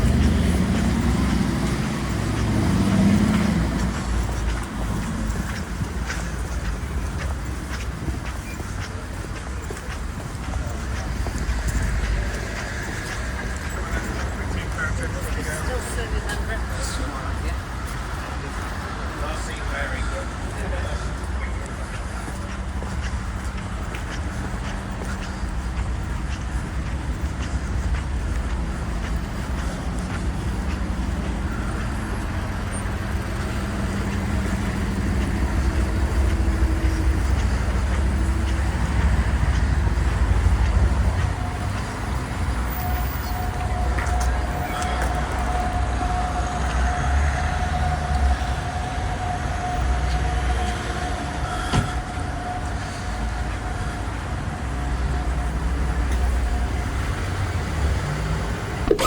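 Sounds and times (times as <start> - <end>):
low rumble of road vehicles: 0.0 - 59.0.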